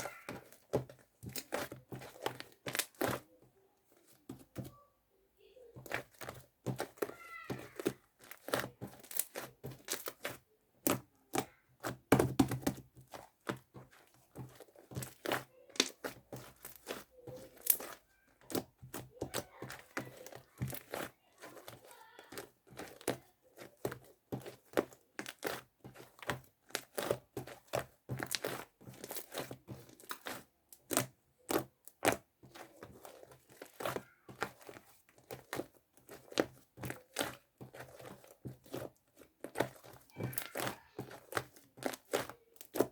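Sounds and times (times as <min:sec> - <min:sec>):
slime squishing with clicks and pops: 0:00.0 - 0:03.4, 0:05.8 - 0:42.9.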